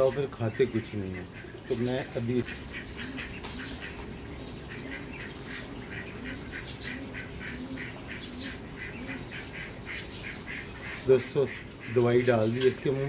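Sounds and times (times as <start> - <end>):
rapid repeated bird calls: 0.0 - 13.0
soft low bird calls: 0.0 - 13.0.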